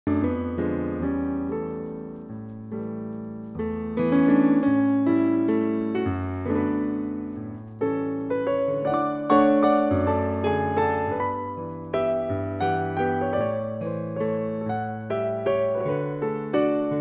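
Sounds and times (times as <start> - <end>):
solo piano music: 0.1 - 17.0.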